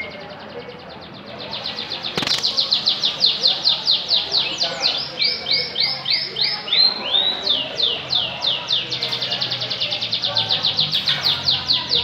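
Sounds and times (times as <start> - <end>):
canary singing a trill: 0.0 - 12.0.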